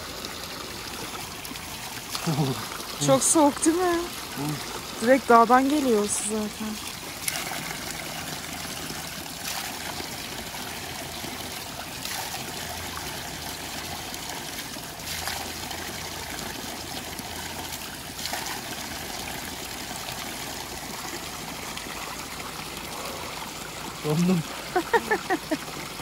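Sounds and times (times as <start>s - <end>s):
spring water trickling: 0.0s - 26.0s.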